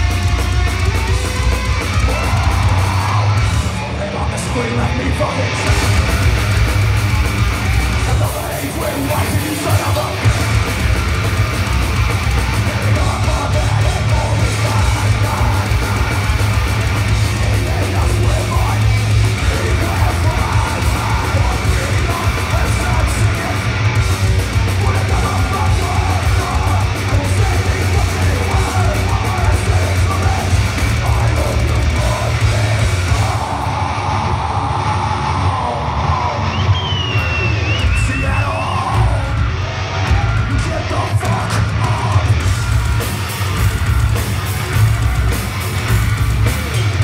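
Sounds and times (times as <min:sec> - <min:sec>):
distorted guitars: 0:00.0 - 0:47.0
shouted vocals: 0:00.9 - 0:06.4, 0:07.5 - 0:42.8.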